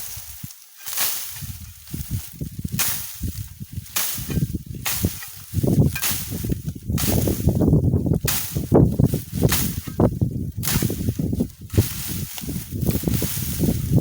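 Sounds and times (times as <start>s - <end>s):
wind buffeting microphone: 1.3s - 14.0s.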